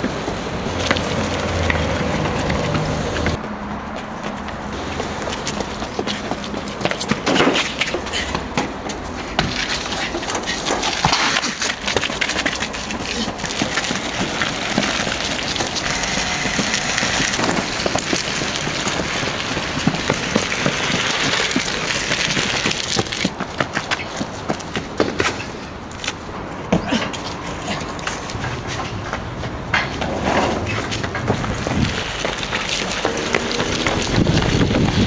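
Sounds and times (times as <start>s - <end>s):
running footsteps on asphalt: 0.0s - 35.0s.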